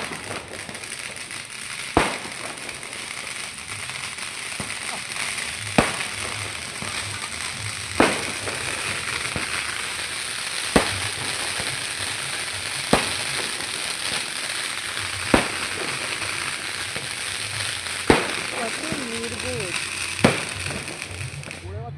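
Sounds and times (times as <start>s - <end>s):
fireworks bangs: 0.0s - 21.9s
fireworks crackling hiss: 0.0s - 21.9s.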